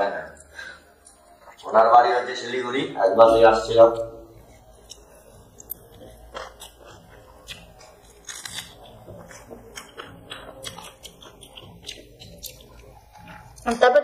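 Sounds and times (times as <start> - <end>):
people chewing: 0.0 - 1.8, 3.3 - 14.0.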